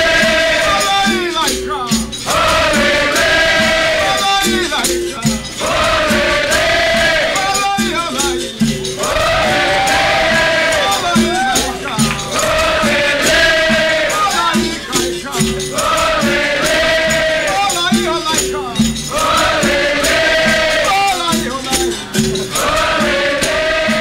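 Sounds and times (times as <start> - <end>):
berimbaus playing: 0.0 - 24.0
frame drums: 0.0 - 24.0
group singing call and response: 0.0 - 24.0
shakers: 0.0 - 24.0
hand drum: 1.1 - 24.0.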